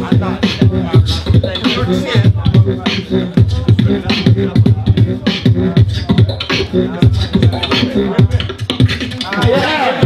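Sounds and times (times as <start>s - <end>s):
beatboxing: 0.0s - 10.0s.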